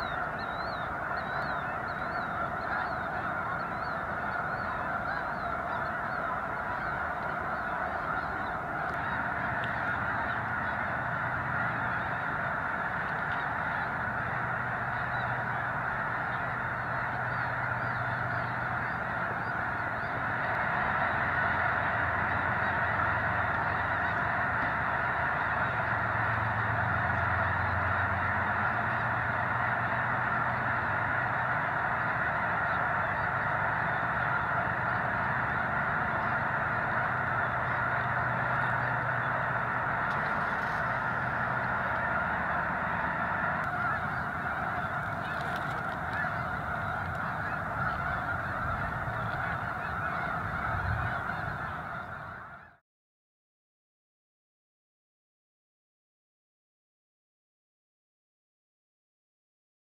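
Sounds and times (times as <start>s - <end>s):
flock of geese honking: 0.0s - 52.8s.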